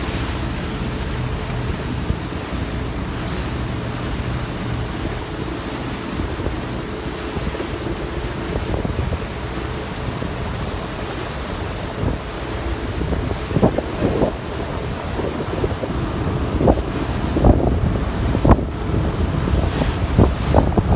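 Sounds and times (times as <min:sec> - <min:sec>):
sea water rushing: 0:00.0 - 0:20.9
wind buffeting microphone: 0:00.0 - 0:20.9.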